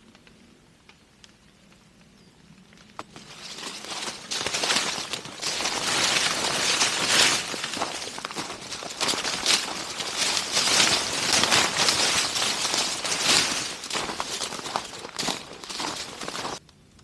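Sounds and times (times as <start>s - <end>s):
footsteps crackling over rough ground: 2.7s - 16.6s.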